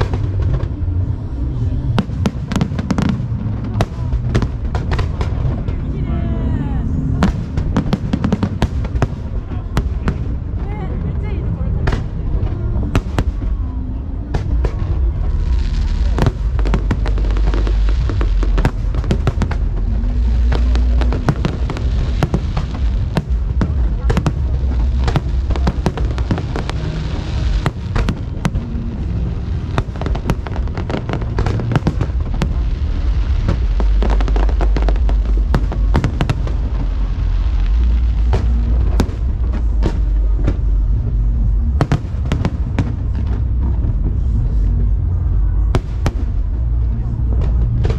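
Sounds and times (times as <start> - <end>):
fireworks bangs and crackles: 0.0 - 47.9
low rolling booms: 0.0 - 47.9.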